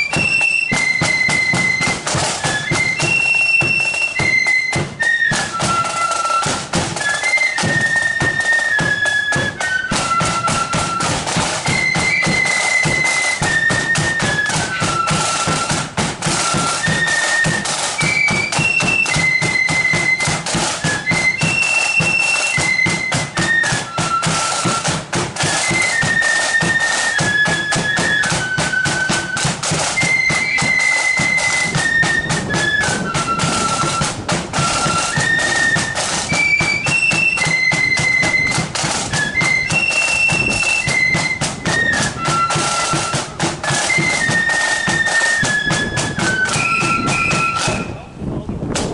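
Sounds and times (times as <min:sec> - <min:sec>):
flutes playing melody: 0:00.0 - 0:48.7
snare drum rolls: 0:00.0 - 0:48.9.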